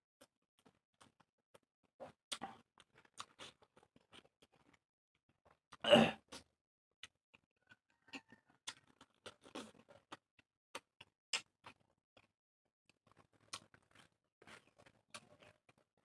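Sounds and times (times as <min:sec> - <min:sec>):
chewing clicks and smacks: 0:00.2 - 0:04.8, 0:05.4 - 0:12.3, 0:12.9 - 0:15.8.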